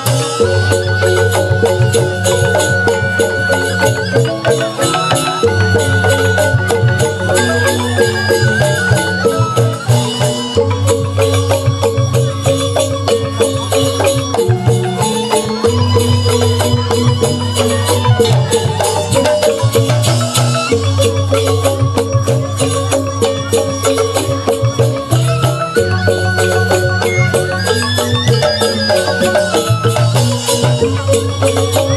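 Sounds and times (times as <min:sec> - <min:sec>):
bamboo flutes: 0:00.0 - 0:31.9
bamboo xylophones struck: 0:00.0 - 0:31.9.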